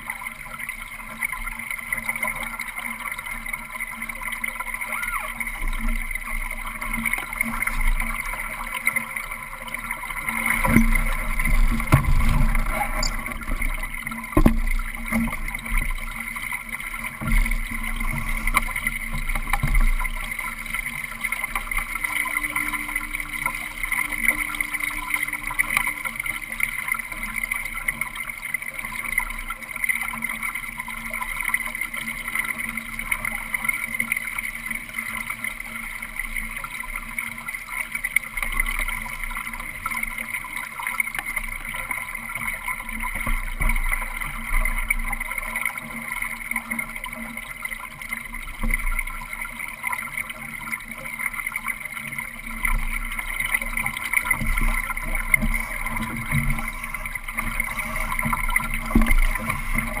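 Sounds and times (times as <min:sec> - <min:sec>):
water rushing along boat hull: 0:00.0 - 1:00.0.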